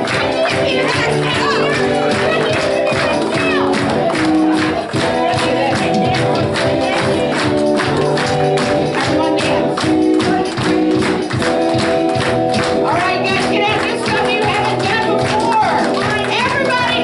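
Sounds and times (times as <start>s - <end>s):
band playing: 0.0s - 17.0s
percussion steady beat: 0.0s - 17.0s.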